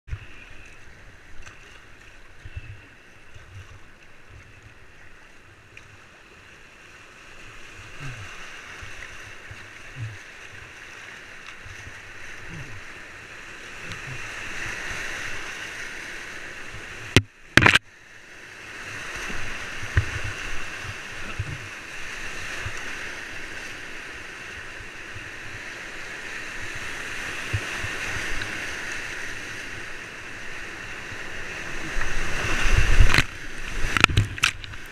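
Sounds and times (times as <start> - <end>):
white-water river rushing: 6.3 - 17.8, 18.5 - 34.9.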